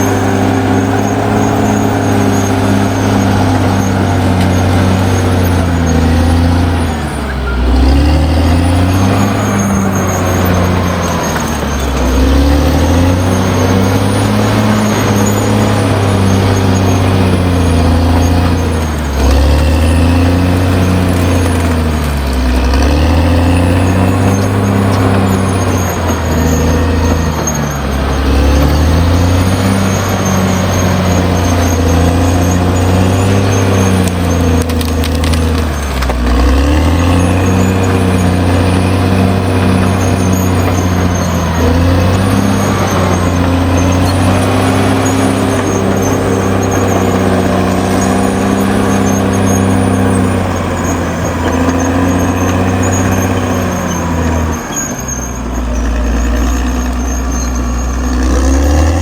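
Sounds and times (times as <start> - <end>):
bulldozer diesel engine running hard: 0.0 - 59.0.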